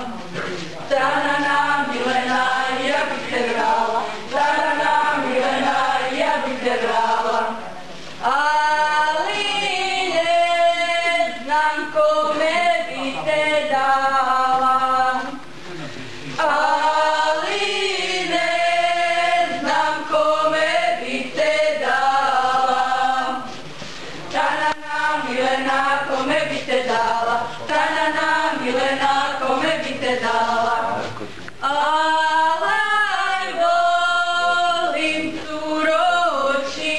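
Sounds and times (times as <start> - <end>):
women singing unaccompanied: 0.0 - 0.3, 0.9 - 15.4, 16.4 - 23.6, 24.3 - 36.9.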